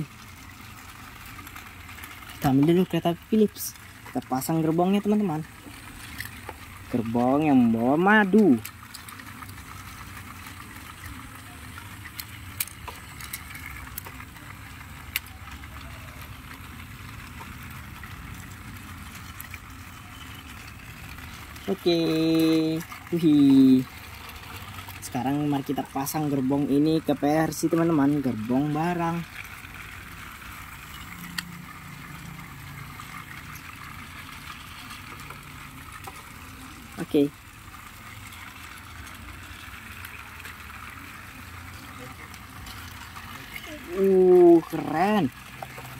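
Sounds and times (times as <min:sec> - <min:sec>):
toy train motors whirring: 0:00.0 - 0:45.9.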